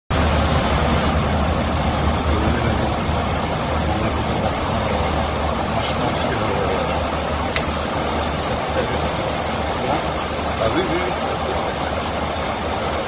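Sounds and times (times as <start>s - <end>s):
airliner cabin roar: 0.1s - 13.0s
low hum: 0.1s - 13.0s.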